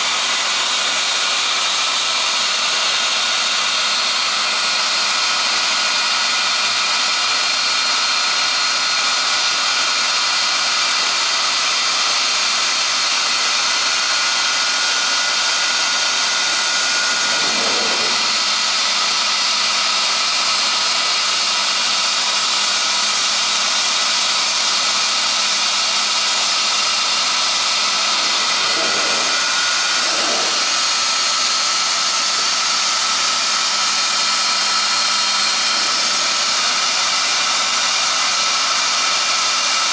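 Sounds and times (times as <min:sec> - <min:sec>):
router spindle high whine: 0:00.0 - 0:39.9.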